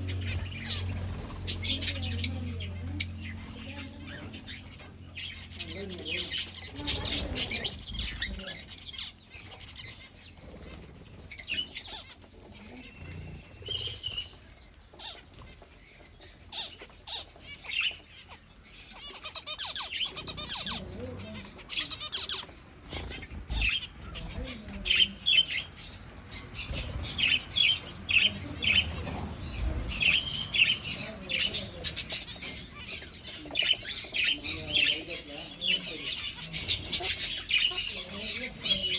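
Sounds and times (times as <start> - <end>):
finches chirping: 0.0 - 38.9.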